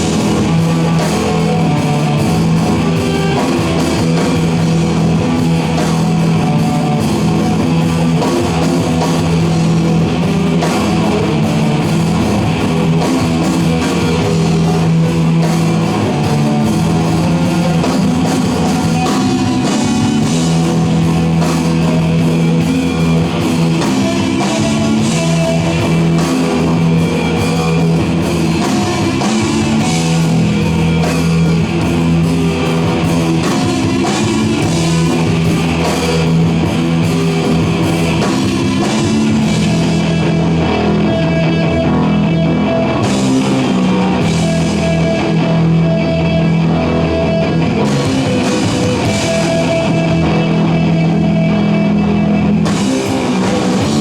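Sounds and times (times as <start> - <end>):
rock band playing loudly: 0.0 - 54.0.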